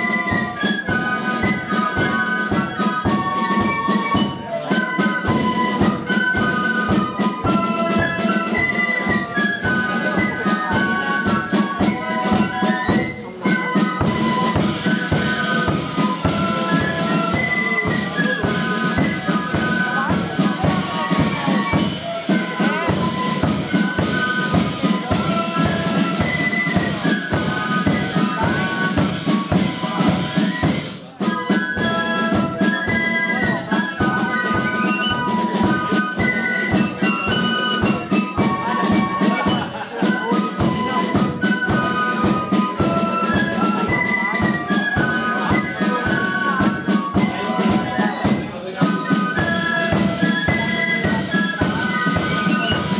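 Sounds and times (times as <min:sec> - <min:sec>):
flutes playing melody: 0:00.0 - 0:52.9
side drum and bass drum beats: 0:00.0 - 0:52.9.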